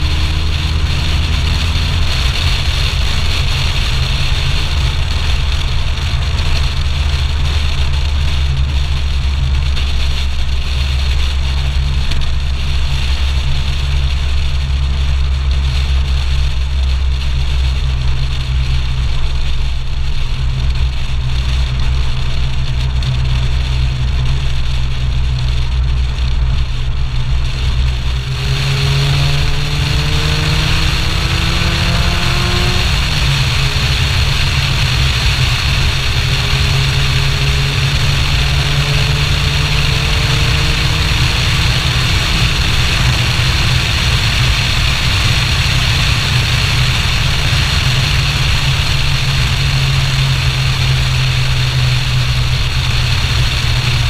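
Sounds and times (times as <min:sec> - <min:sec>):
car engine accelerating: 0:00.0 - 0:54.0
wind noise: 0:00.0 - 0:54.0.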